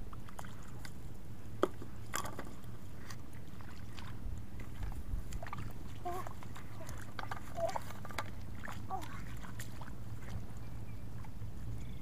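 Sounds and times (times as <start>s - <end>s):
feet and hands squelching in mud: 0.0s - 12.0s
low steady rumble: 0.0s - 12.0s.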